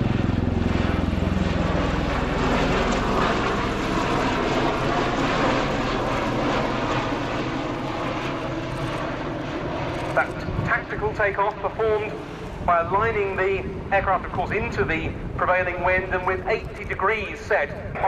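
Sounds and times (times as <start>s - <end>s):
tiltrotor aircraft rotor beat: 0.0s - 18.0s
turboshaft engine noise: 0.0s - 18.0s.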